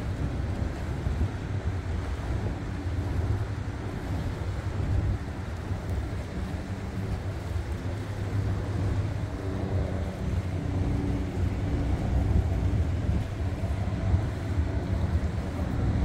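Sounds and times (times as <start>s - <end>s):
low engine drone: 0.0s - 16.0s
wind buffeting microphone: 0.0s - 16.0s.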